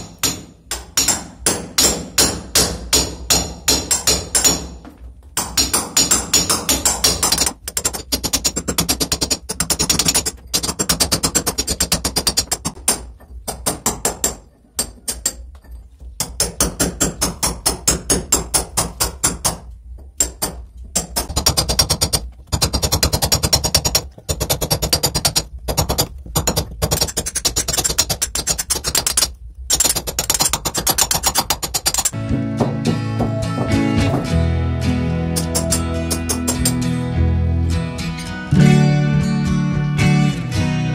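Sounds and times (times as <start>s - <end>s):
hammer striking chisel into brick: 0.0s - 4.8s, 5.4s - 15.4s, 16.2s - 34.3s, 35.4s - 36.9s.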